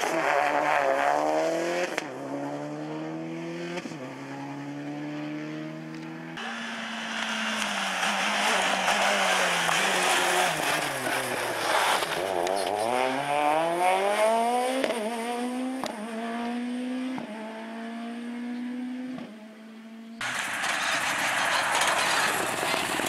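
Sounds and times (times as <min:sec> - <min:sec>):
rally car engine accelerating: 0:00.0 - 0:23.0.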